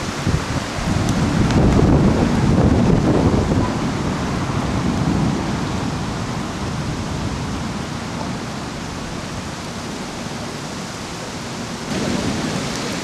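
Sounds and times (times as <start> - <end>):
storm wind and rain: 0.0 - 13.0.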